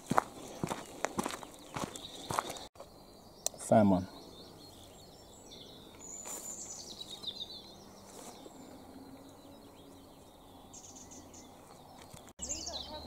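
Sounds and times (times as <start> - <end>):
faint outdoor background: 0.0 - 13.0
small birds chirping: 0.0 - 13.0.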